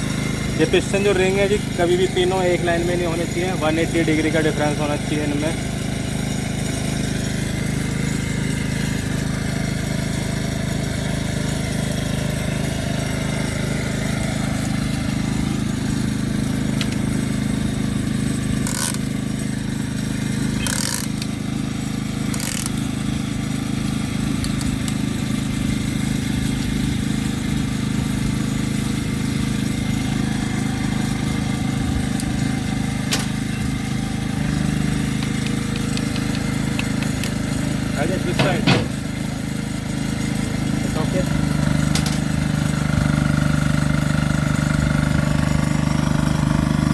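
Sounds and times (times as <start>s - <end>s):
engine humming steadily: 0.0s - 46.9s.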